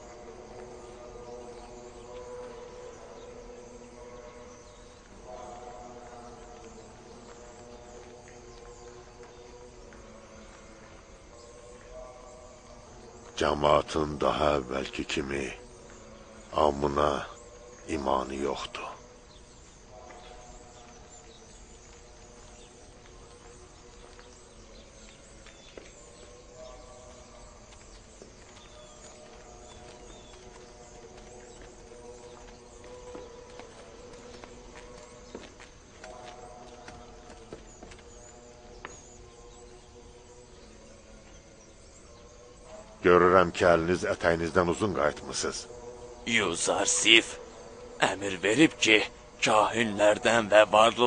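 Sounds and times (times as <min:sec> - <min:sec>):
film score sustained tones: 0:00.0 - 0:51.0.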